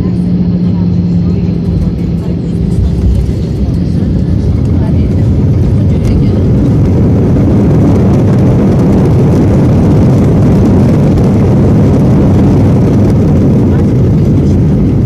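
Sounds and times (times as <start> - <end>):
aeroplane landing rumble: 0.0 - 15.0.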